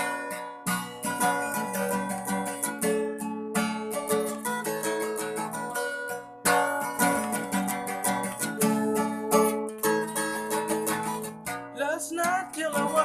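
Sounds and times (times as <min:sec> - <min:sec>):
guitar chords strummed: 0:00.0 - 0:13.0.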